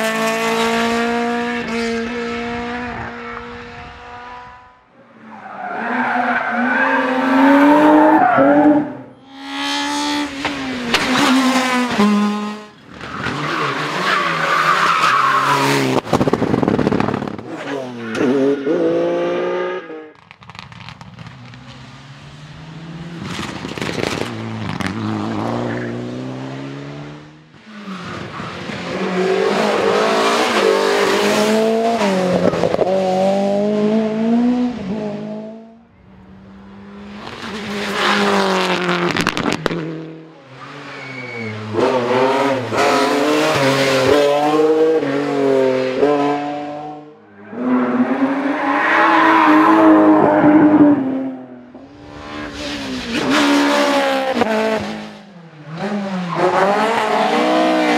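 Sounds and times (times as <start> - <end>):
rally cars passing at speed: 0.0 - 57.9.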